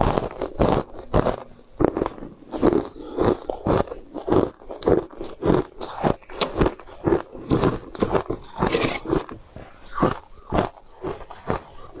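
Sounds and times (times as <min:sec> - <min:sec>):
person crunching ice: 0:00.0 - 0:12.0.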